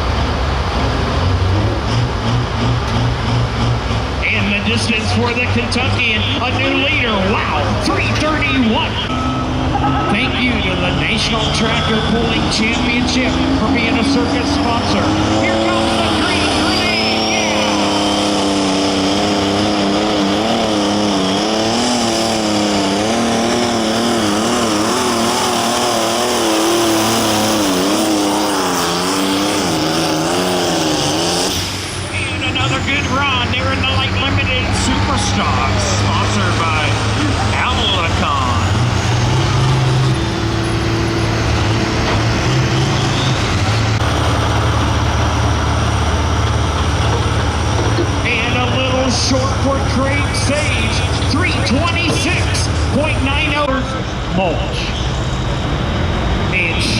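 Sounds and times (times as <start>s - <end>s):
diesel tractor engine at full power: 0.0s - 56.9s.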